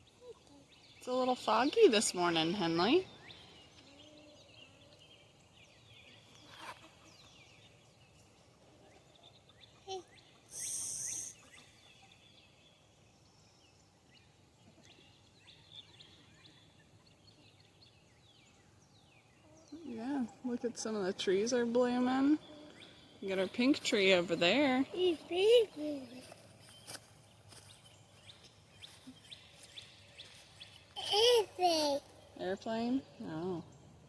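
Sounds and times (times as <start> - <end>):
faint songbirds chirping: 0.0 - 34.0.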